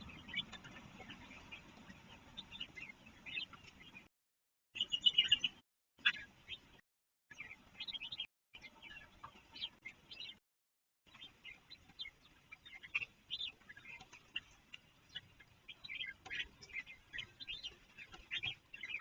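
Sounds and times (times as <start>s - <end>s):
birds chirping and calling: 0.0s - 4.1s, 4.8s - 10.4s, 11.1s - 19.0s.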